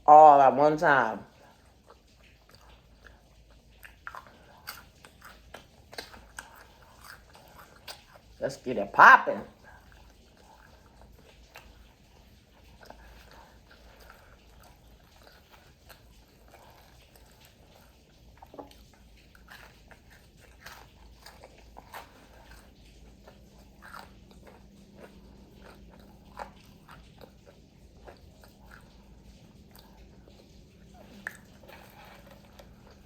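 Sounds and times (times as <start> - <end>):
person chewing crunchy food: 1.3 - 8.4, 9.5 - 33.0.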